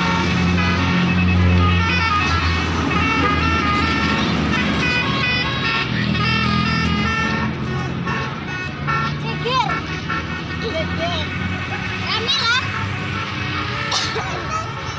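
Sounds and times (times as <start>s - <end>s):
bus horn playing a melody: 0.0s - 14.9s
engine drone: 0.0s - 14.9s.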